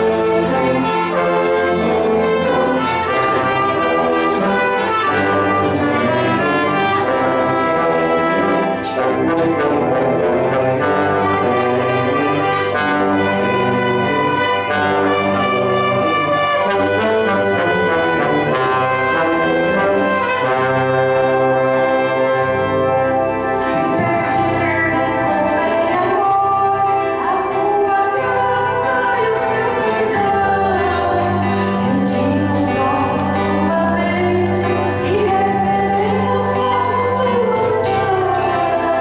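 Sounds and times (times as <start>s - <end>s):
brass playing sustained chords: 0.0s - 39.0s
small orchestra playing a hymn: 0.0s - 39.0s.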